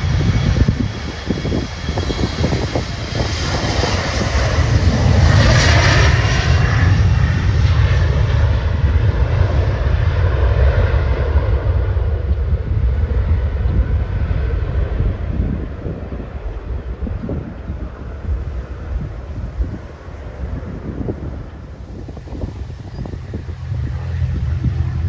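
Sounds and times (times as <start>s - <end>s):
jet engines at takeoff thrust: 0.0s - 25.0s.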